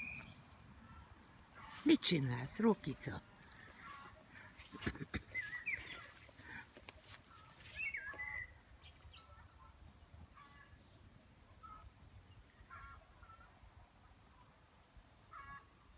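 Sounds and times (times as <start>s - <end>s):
small birds chirping: 0.0s - 13.5s.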